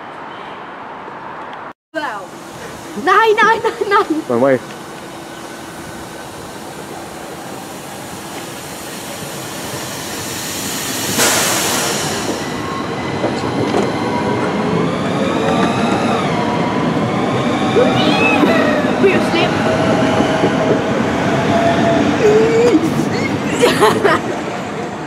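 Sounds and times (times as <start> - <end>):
electric train rushing past: 2.0 - 25.0.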